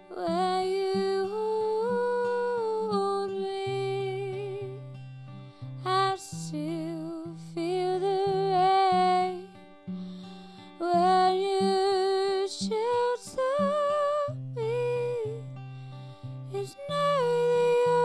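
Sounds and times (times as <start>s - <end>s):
woman singing: 0.0s - 5.0s, 5.6s - 9.6s, 10.7s - 15.6s, 16.4s - 18.0s
plucked guitar: 0.0s - 18.0s.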